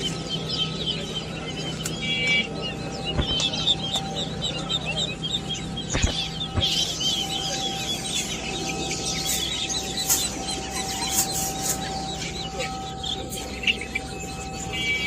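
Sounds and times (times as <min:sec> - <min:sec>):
caged birds chirping: 0:00.0 - 0:15.0.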